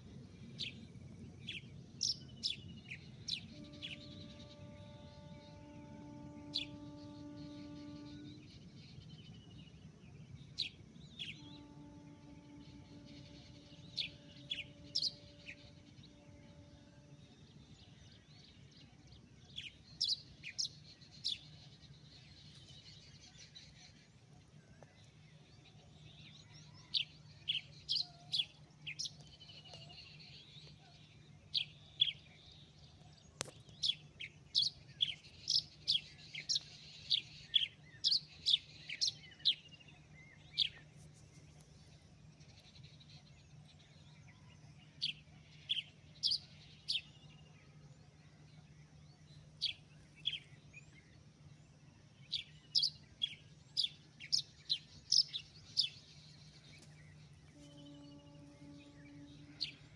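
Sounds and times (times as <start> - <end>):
faint low hum: 0.0 - 59.9
small birds chirping: 0.0 - 59.9.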